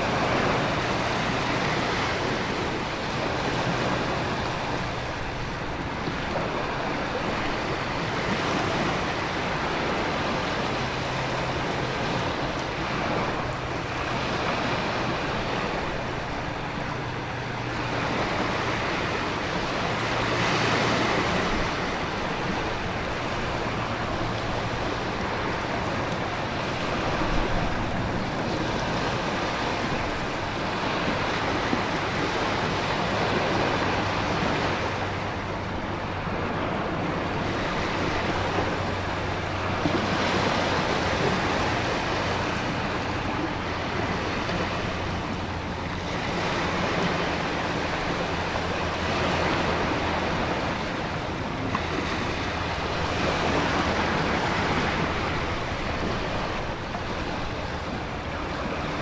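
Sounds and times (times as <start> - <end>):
ocean surf: 0.0 - 59.0
wind: 0.0 - 59.0.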